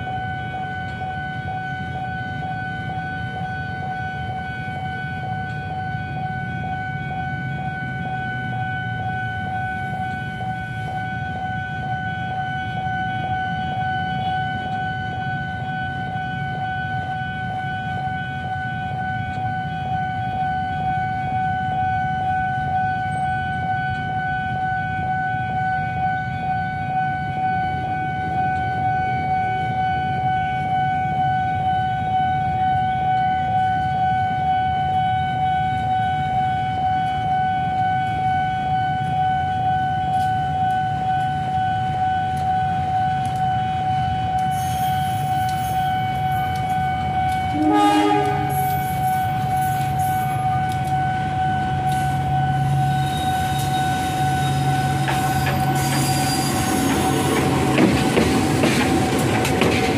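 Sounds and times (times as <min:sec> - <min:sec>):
level crossing warning alarm: 0:00.0 - 0:59.9
low train rumble: 0:00.0 - 0:59.9.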